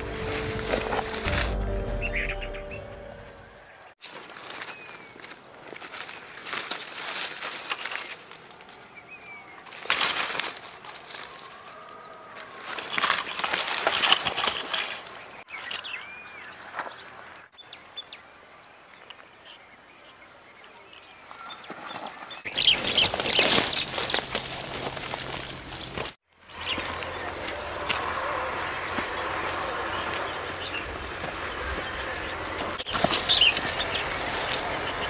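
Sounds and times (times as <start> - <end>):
leaves and branches rustling: 0.0 - 1.8, 4.0 - 35.0.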